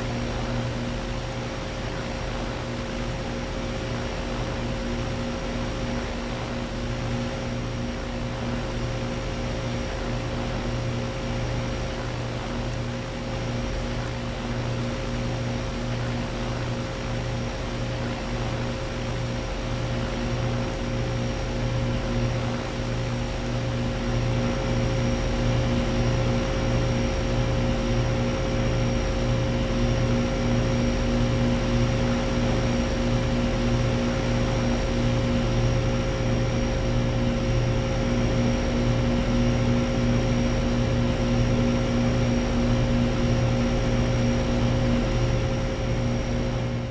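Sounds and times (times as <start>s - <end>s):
compressor electric hum: 0.0s - 46.9s
condenser fans rushing: 0.0s - 46.9s.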